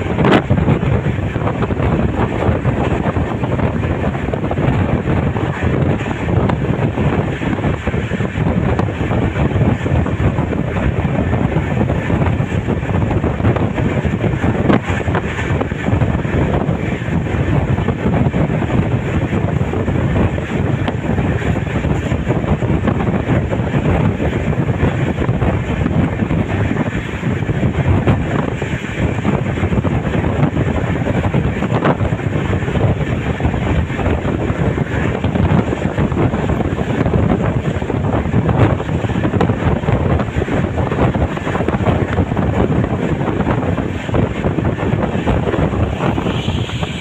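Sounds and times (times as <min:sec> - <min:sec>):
train wheels rumbling on rails: 0:00.0 - 0:47.0
wind buffeting microphone: 0:00.0 - 0:47.0.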